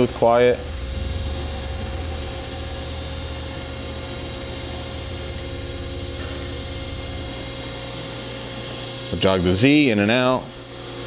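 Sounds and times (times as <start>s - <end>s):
grinder mechanical hum: 0.0s - 11.0s
thin machine whine: 0.0s - 11.0s.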